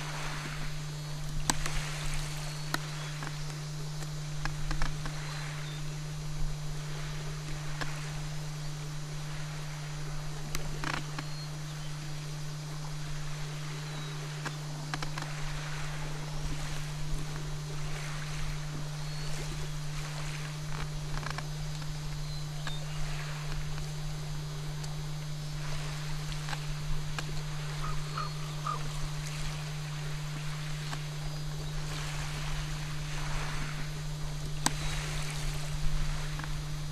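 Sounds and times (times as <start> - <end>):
low hum: 0.0 - 36.9.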